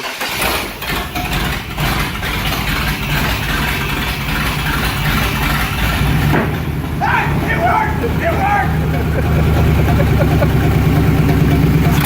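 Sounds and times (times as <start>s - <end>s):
truck engine running: 0.2s - 12.0s.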